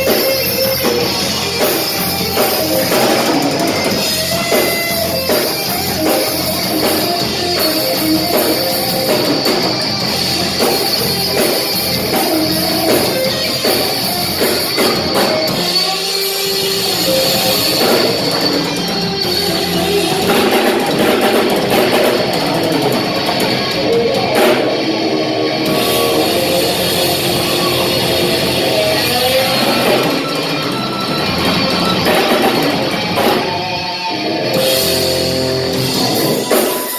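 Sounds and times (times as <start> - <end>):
drum kit: 0.0 - 36.9
electric guitar: 0.0 - 36.9
rock band playing: 0.0 - 36.9.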